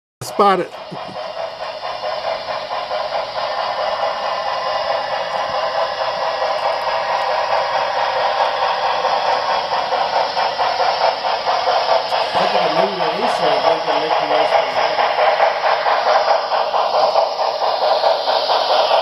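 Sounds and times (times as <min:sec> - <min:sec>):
model steam locomotive chuffing: 0:00.2 - 0:19.0
train wheels clattering on track: 0:00.2 - 0:19.0.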